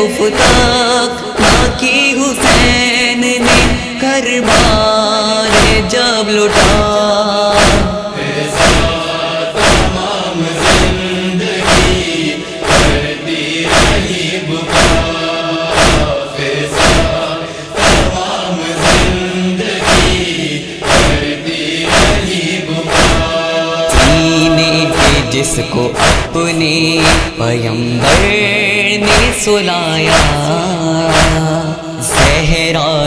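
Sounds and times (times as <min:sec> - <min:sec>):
men chanting in chorus: 0:00.0 - 0:33.0
chest-beating thumps: 0:01.4 - 0:28.4, 0:29.0 - 0:32.5.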